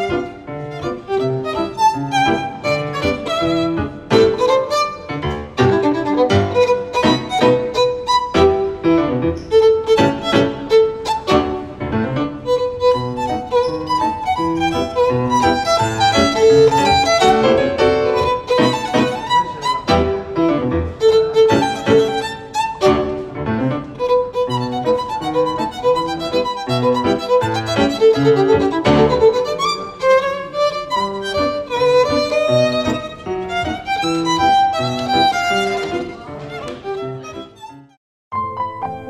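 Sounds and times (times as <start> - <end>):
violin melody: 0.0 - 39.0.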